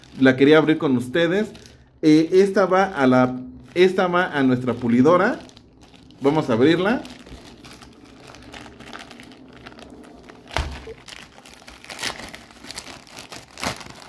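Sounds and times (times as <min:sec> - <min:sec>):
plastic packaging crinkling: 0:00.0 - 0:01.9, 0:03.0 - 0:14.0
plastic crackles: 0:00.0 - 0:02.0, 0:03.0 - 0:14.0.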